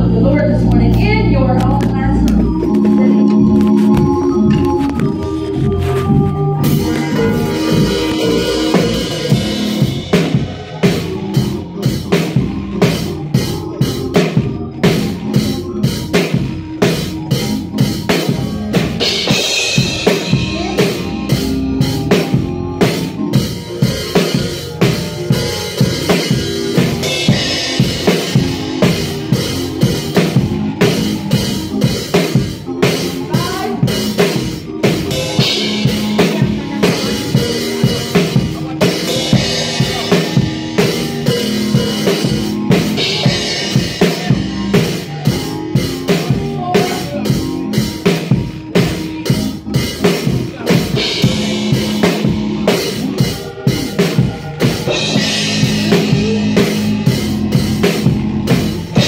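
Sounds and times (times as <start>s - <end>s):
drum kit groove: 0.0s - 59.0s
sustained low instrumental notes: 0.0s - 59.0s.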